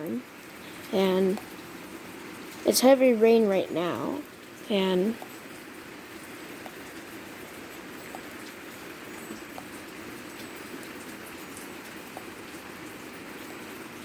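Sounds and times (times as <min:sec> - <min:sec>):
heavy rain falling: 0:00.0 - 0:14.0
loud raindrops: 0:00.0 - 0:14.0.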